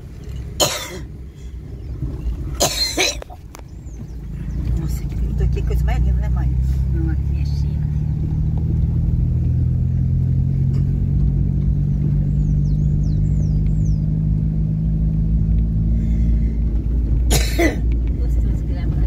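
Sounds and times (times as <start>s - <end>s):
car rumbling on the move: 0.0s - 19.0s.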